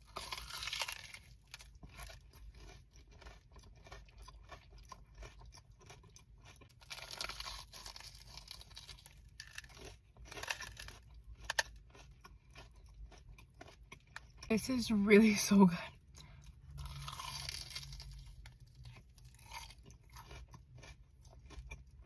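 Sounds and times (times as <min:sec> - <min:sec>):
person chewing crunchy food: 0:00.0 - 0:14.8, 0:15.9 - 0:22.0.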